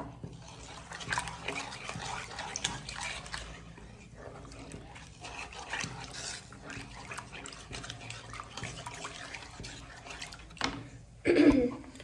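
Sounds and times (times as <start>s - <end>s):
spatula stirring thick porridge: 0.0s - 11.2s.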